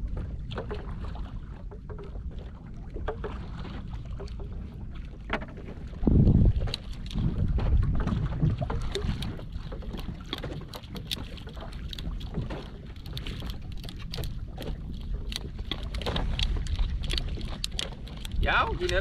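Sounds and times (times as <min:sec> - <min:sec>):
water moving around boat: 0:00.0 - 0:19.0
wind on microphone: 0:00.0 - 0:19.0.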